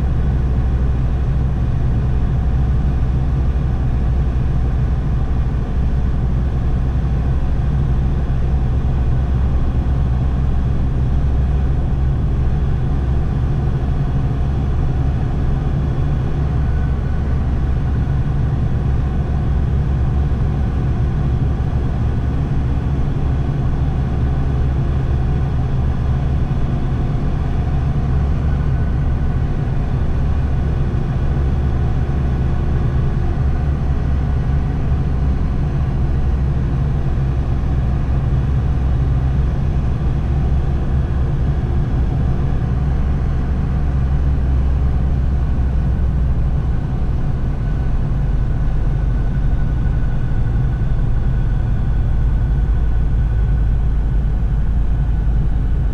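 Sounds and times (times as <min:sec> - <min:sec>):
car driving through tunnel: 0:00.0 - 0:55.9.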